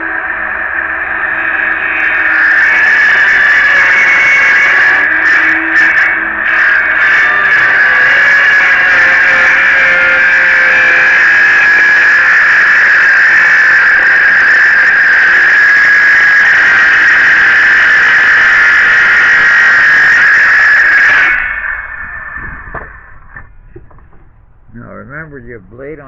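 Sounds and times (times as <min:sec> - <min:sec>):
circular saw cutting wood: 0:00.0 - 0:24.3.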